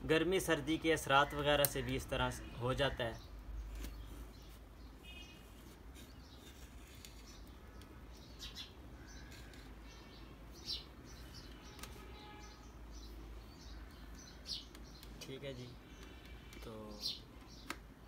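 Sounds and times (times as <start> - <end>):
faint bird chirps: 1.1 - 17.8.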